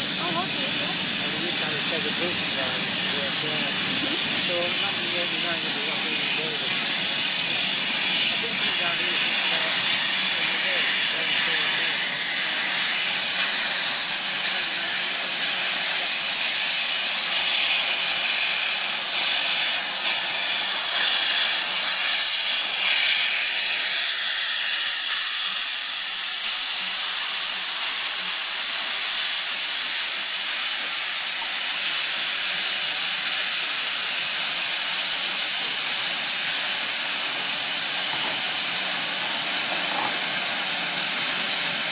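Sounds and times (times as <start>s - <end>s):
steam locomotive hissing: 0.0s - 41.9s.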